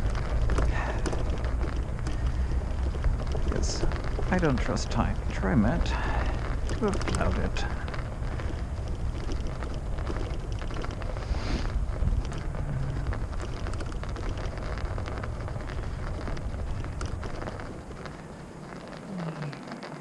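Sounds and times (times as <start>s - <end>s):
snow and ice crunching: 0.0s - 20.0s
wind rumble on microphone: 0.0s - 20.0s.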